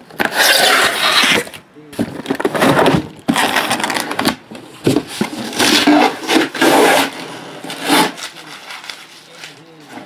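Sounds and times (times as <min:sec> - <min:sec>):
cardboard and shrink-wrap crinkling: 0:00.4 - 0:10.0.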